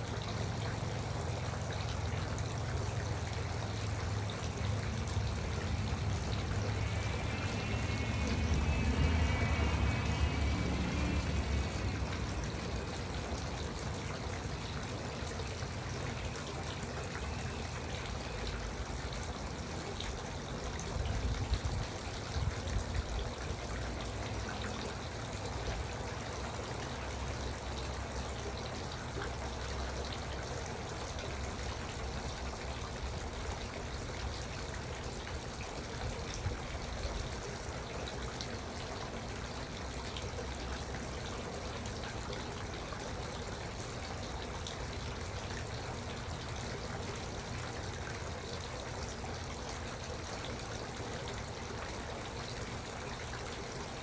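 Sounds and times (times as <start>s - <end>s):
fountain trickling and splashing: 0.0s - 54.0s.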